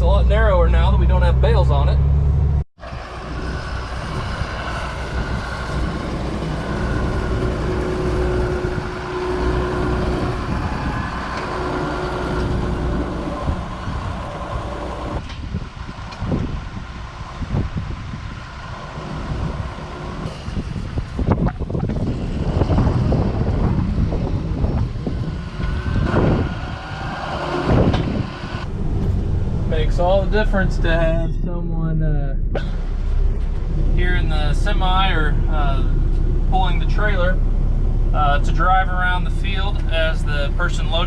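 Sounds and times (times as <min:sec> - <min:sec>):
farm vehicle engine running: 0:00.0 - 0:41.0.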